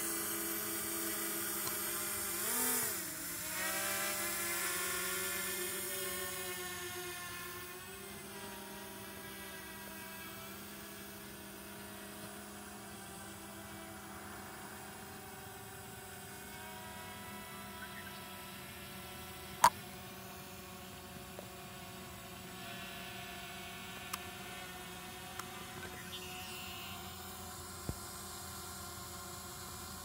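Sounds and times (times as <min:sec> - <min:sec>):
drone propellers humming: 0:00.0 - 0:30.0.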